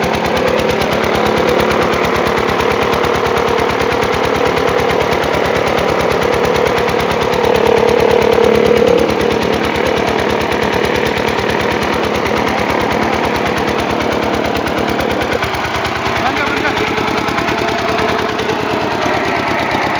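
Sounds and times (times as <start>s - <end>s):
generator engine running loudly: 0.0s - 19.9s.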